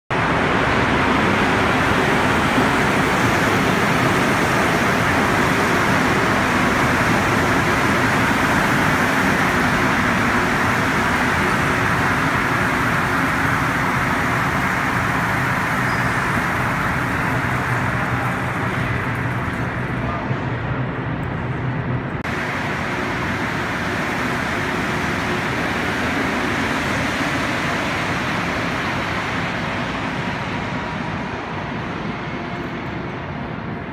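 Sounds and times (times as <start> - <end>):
subway train running: 0.1 - 33.9.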